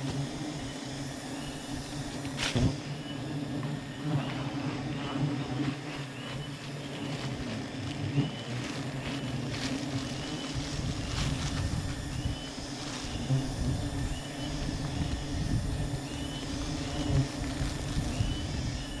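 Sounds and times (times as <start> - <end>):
bee colony buzzing drone: 0.0 - 19.0.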